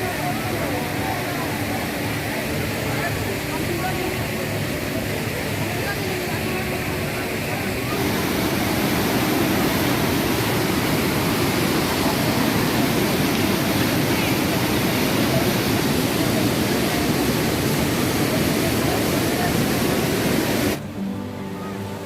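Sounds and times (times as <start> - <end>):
waterfall rushing: 0.0 - 21.2.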